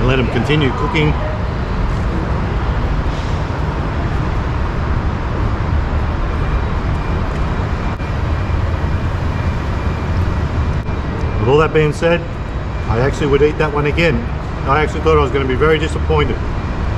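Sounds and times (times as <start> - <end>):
city road traffic rumble: 0.0 - 16.9.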